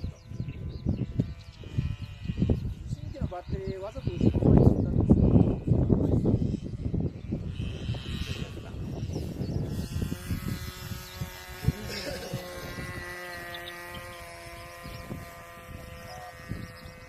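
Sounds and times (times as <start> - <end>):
model plane engine buzzing: 0.0 - 17.0
wind thumps on microphone: 0.0 - 17.0.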